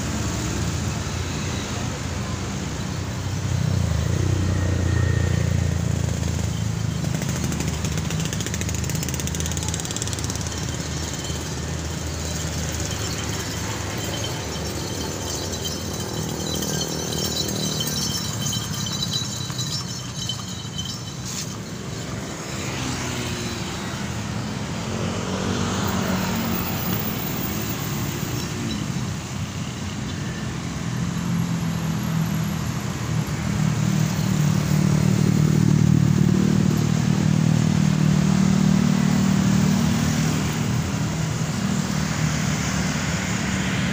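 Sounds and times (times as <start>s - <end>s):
cars and motorcycles passing: 0.0s - 43.9s.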